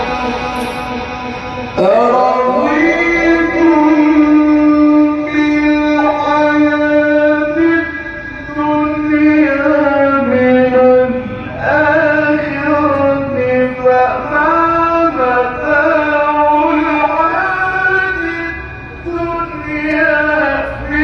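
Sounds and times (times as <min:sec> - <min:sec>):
man chanting through microphone: 0:00.0 - 0:21.0.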